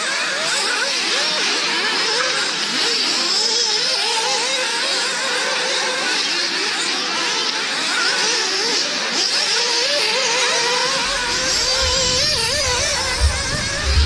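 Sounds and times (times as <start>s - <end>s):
rc buggy engines whining: 0.0s - 14.0s.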